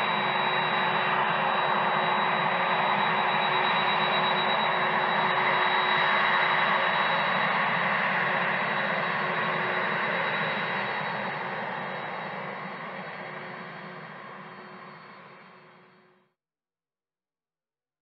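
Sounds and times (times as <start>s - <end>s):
jet engines at low power: 0.0s - 16.2s.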